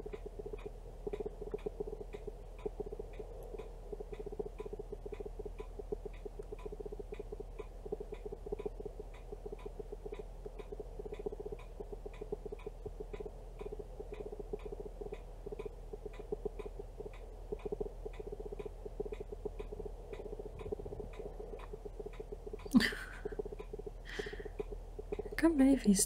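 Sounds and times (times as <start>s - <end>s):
clock ticking: 0.0s - 26.0s
low uneven hum: 0.0s - 26.0s.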